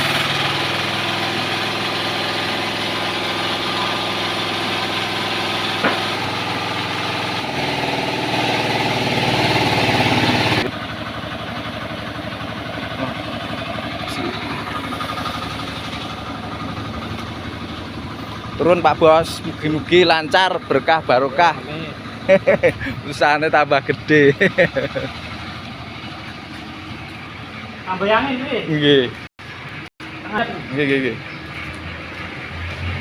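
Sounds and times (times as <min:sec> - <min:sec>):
engine idling: 0:00.0 - 0:32.8.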